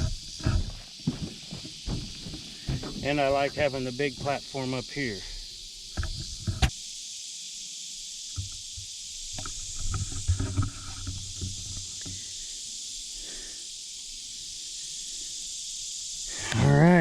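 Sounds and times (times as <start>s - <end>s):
insects hissing: 0.0s - 17.0s.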